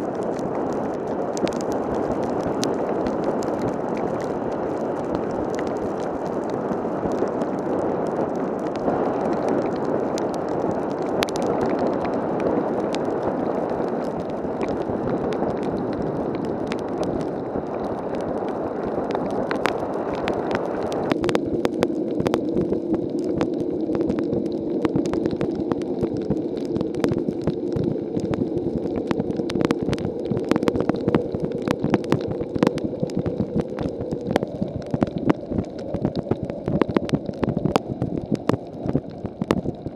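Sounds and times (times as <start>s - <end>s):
heavy rain pouring: 0.0s - 39.9s
raindrops tapping: 0.0s - 39.9s.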